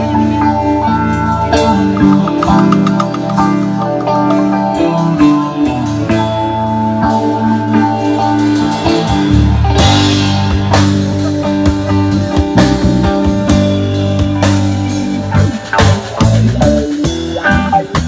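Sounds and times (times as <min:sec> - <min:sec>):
bass guitar: 0:00.0 - 0:18.0
rock band instrumental: 0:00.0 - 0:18.0.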